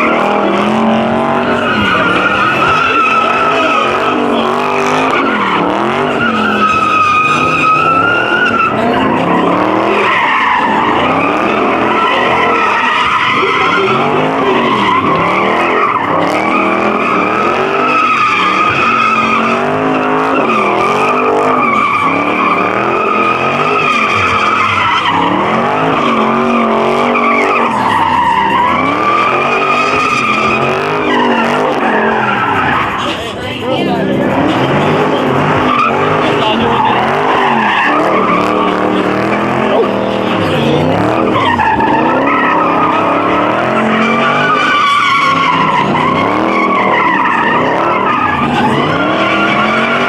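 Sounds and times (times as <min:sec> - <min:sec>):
car engine revving: 0:00.0 - 0:50.0
tyres screeching: 0:00.0 - 0:50.0.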